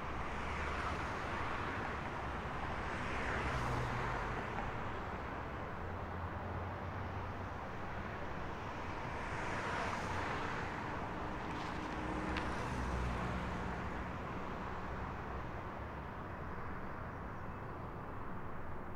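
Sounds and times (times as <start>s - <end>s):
city traffic noise: 0.0s - 18.9s.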